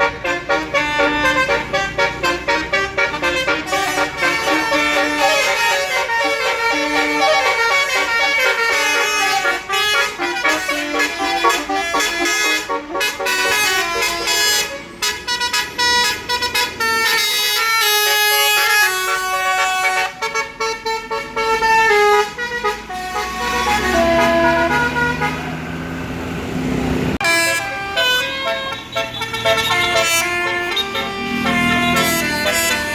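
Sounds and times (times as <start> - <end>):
musical bus horn melody: 0.0 - 25.8, 27.2 - 32.9.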